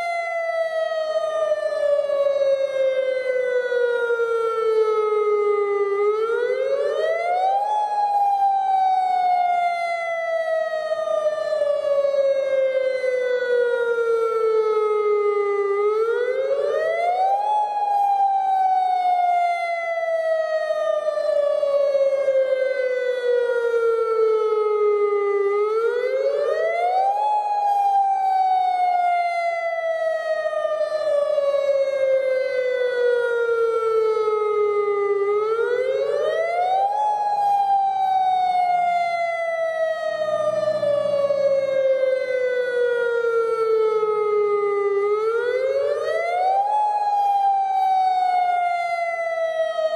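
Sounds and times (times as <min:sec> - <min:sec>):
tornado warning siren wailing: 0:00.0 - 0:49.9.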